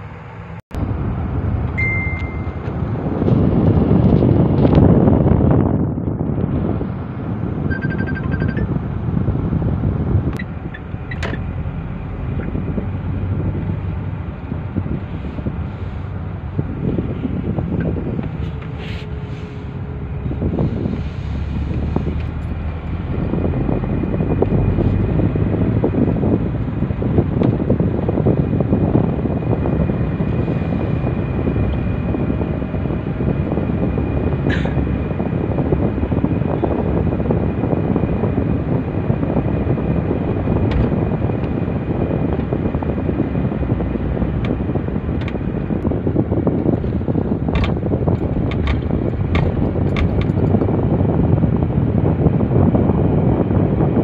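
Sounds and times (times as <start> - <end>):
air-conditioning fan blowing: 0.0 - 54.0
car interior road and engine noise: 0.0 - 54.0.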